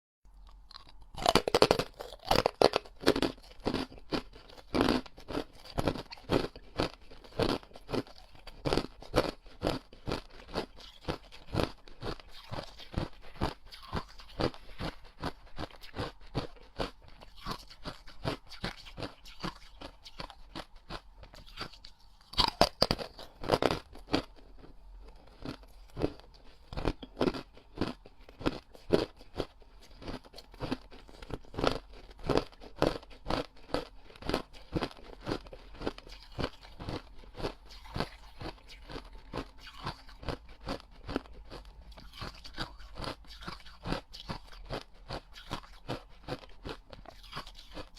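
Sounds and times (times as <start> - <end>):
ice being chewed crunching: 0.3 - 47.9.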